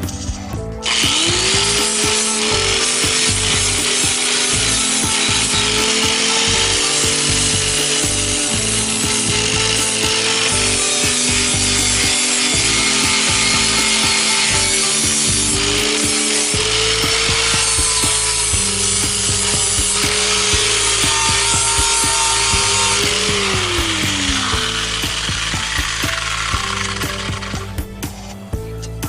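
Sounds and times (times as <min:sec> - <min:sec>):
background music: 0:00.0 - 0:29.0
power tool grinding hiss: 0:00.8 - 0:28.5.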